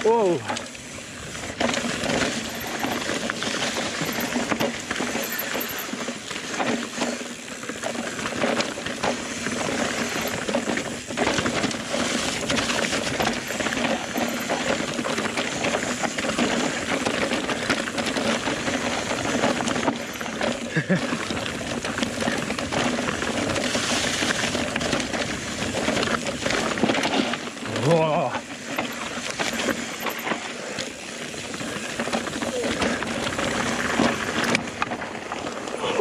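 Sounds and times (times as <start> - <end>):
bike rattling over rocks: 0.0 - 36.0.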